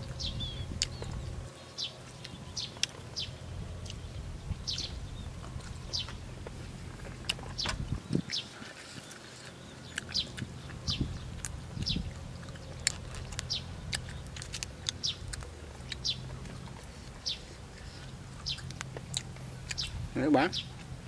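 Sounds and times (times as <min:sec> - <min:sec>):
bird chirping: 0:00.0 - 0:20.9.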